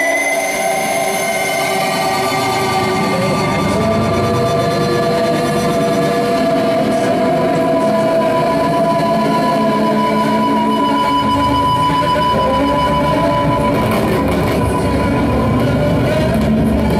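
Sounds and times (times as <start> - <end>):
droning electronic music: 0.0 - 16.9
higher held synth tone: 0.0 - 16.9.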